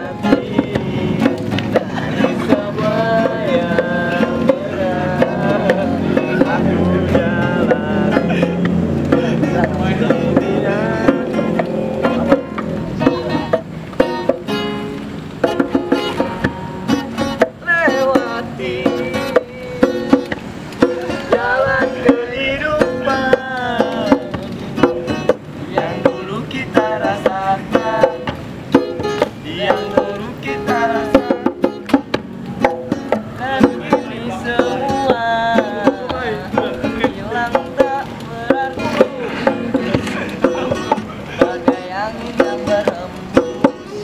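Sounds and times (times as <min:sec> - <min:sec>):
plucked string melody: 0:00.0 - 0:44.0
steady beat: 0:00.0 - 0:44.0.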